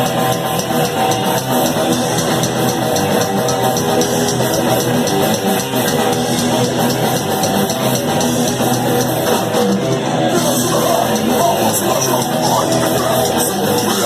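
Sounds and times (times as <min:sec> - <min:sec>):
bass guitar: 0:00.0 - 0:14.0
distorted electric guitars: 0:00.0 - 0:14.0
fast drums and cymbals: 0:00.0 - 0:14.0.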